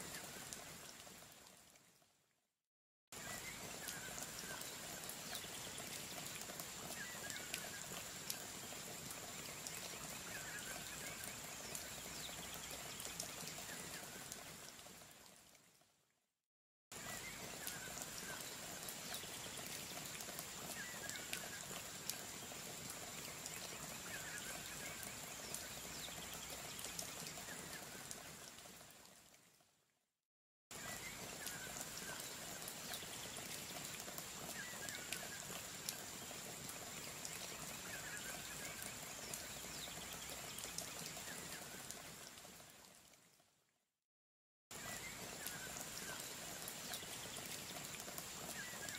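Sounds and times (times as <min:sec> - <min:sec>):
rain-like hiss: 0:00.0 - 0:02.5, 0:03.1 - 0:16.1, 0:16.9 - 0:29.9, 0:30.7 - 0:43.7, 0:44.7 - 0:48.9.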